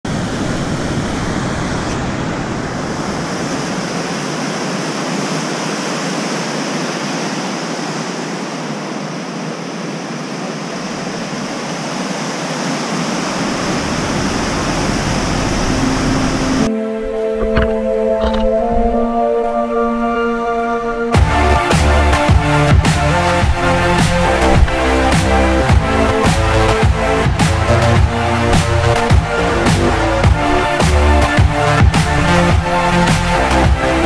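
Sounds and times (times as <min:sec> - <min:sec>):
river rushing: 0:00.1 - 0:34.0.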